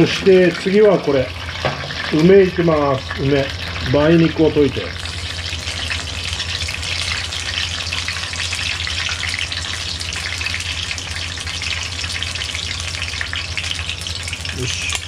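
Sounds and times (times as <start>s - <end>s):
onion rings sizzling in oil: 0.0s - 15.0s.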